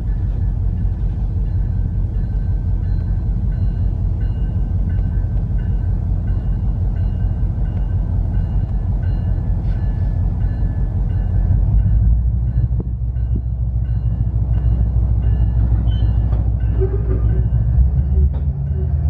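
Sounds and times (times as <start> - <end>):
regular rail clicks: 0.0 - 19.0
train rumbling: 0.0 - 19.0.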